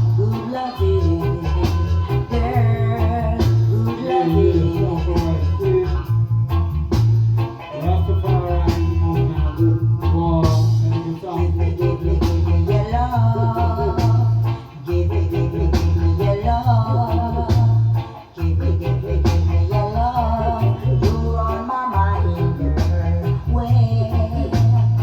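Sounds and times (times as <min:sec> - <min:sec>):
guitar: 0:00.0 - 0:25.0
heavy bass line: 0:00.0 - 0:25.0
steady drum beat: 0:00.0 - 0:25.0.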